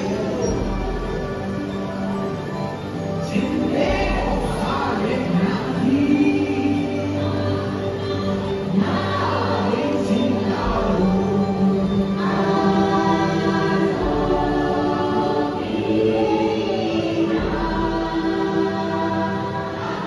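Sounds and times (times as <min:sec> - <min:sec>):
choir singing slow chant: 0:00.0 - 0:01.8, 0:03.2 - 0:20.0.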